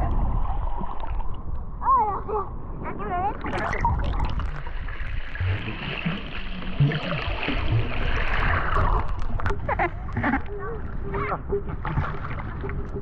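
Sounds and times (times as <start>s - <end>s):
low rumble: 0.0s - 12.1s.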